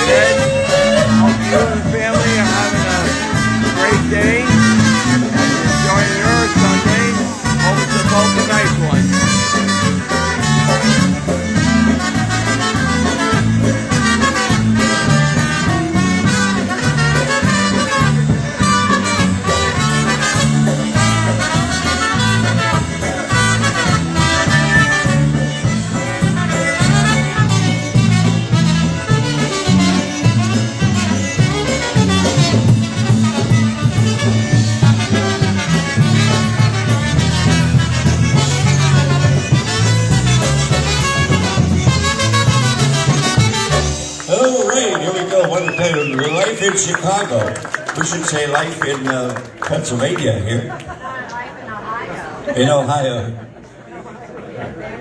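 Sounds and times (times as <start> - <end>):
polka band playing: 0.0 - 50.2.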